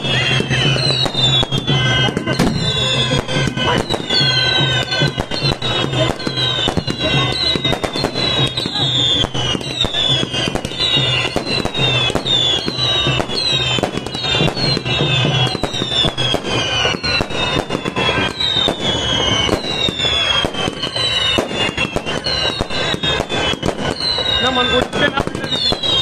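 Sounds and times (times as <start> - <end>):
descending firework whistles: 0.0 - 26.0
fireworks bangs and crackles: 0.0 - 26.0.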